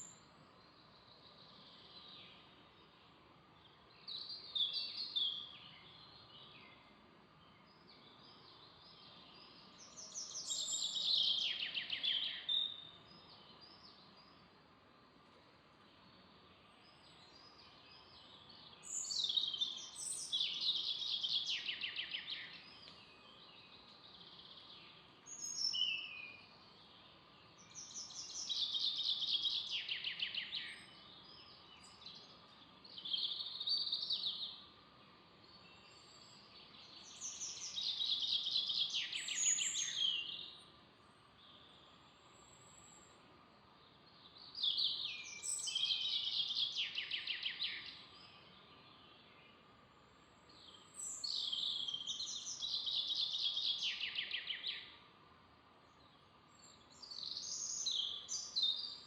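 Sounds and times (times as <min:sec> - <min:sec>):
songbird singing trills: 0:00.0 - 0:14.5, 0:15.9 - 0:49.7, 0:50.4 - 0:55.1, 0:55.9 - 0:59.0
faint background hiss: 0:00.0 - 0:59.0.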